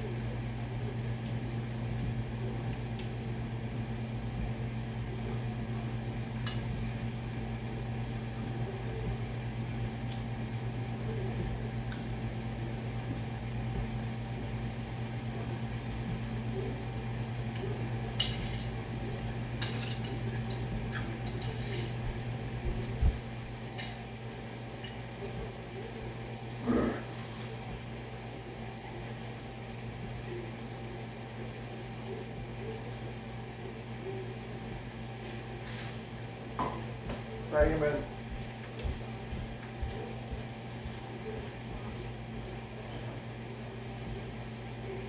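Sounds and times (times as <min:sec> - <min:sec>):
appliance or fan humming: 0:00.0 - 0:45.0.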